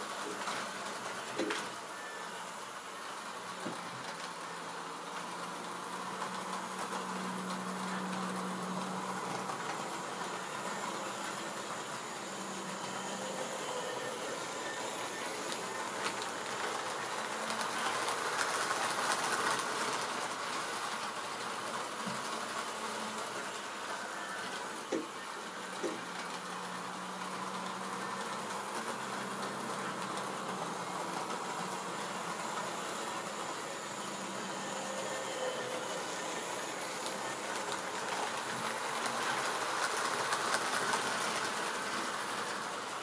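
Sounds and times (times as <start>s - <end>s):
model train motor whirring: 5.1s - 43.0s.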